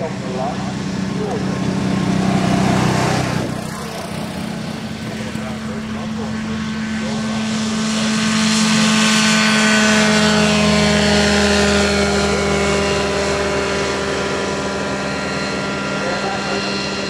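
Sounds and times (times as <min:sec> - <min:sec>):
light aircraft engine droning: 0:00.0 - 0:17.0.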